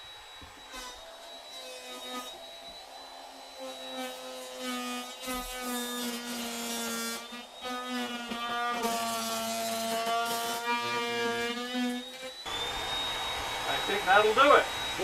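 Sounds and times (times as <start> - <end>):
router motor whine: 0.0 - 15.0.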